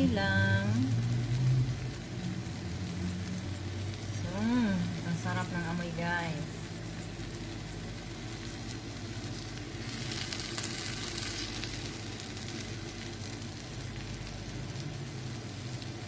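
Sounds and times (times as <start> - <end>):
egg sizzling in a frying pan: 0.0 - 16.0.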